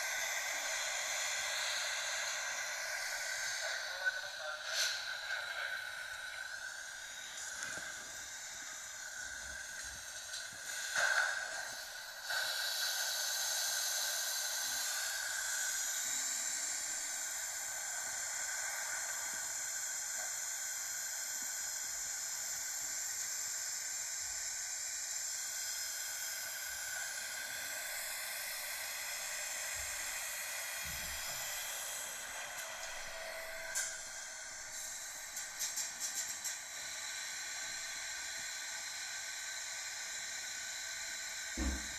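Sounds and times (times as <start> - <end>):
automatic car wash hissing: 0.0 - 41.9.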